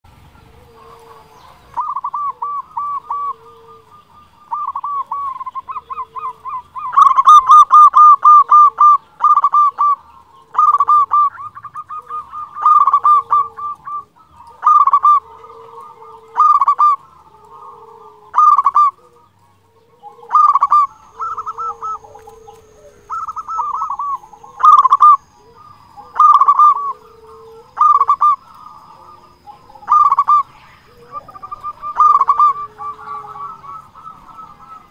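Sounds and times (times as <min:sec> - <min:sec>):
dove cooing: 0:00.1 - 0:34.9.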